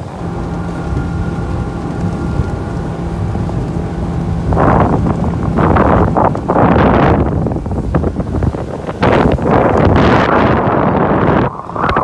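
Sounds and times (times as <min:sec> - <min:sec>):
boat engine droning: 0:00.0 - 0:12.0
rushing rumbling background: 0:00.0 - 0:12.0
wind buffeting microphone: 0:00.0 - 0:12.0.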